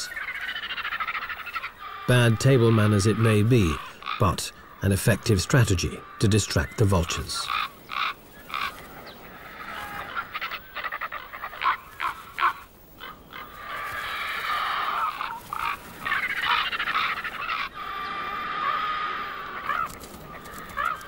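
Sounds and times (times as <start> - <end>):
ravens calling: 0.0 - 21.0.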